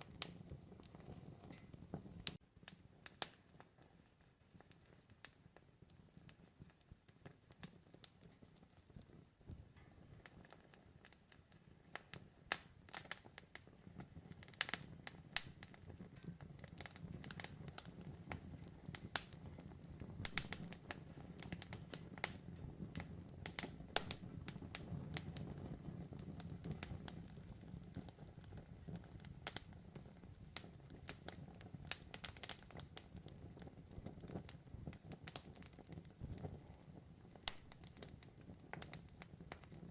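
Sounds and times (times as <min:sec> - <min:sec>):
campfire crackling and popping: 0:00.0 - 0:39.9
low rush of flame: 0:00.0 - 0:39.9.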